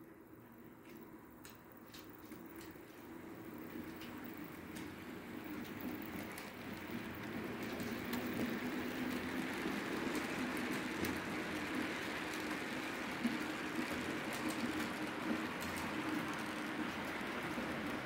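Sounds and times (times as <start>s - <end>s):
model train wheels rattling: 1.9s - 18.0s.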